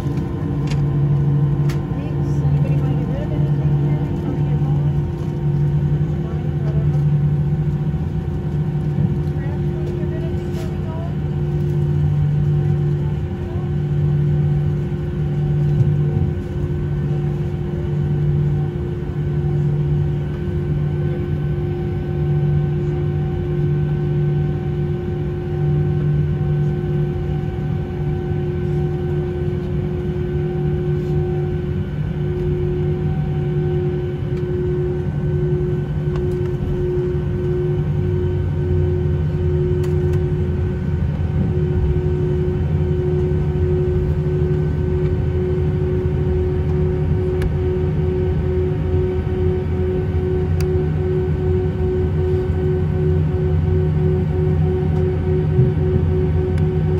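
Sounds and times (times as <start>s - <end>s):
aircraft cabin hum: 0.0s - 56.9s.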